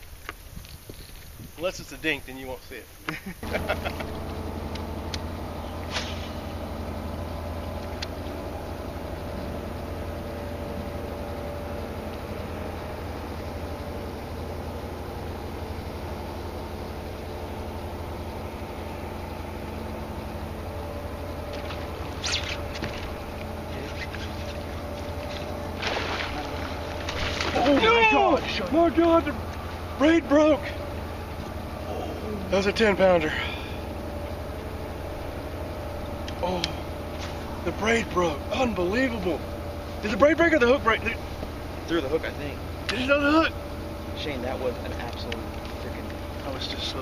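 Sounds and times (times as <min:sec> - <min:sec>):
boat motor humming: 0:03.0 - 0:47.0.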